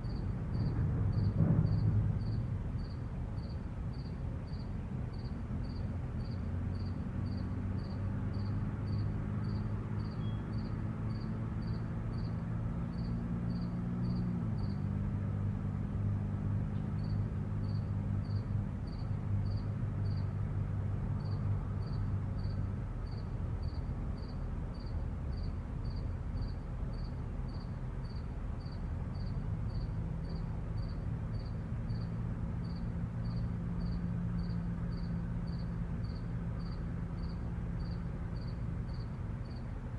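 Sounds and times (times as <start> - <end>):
cricket chirping: 0.0 - 15.0, 17.0 - 20.4, 21.2 - 39.7
low hum of vehicle engines: 0.0 - 39.9.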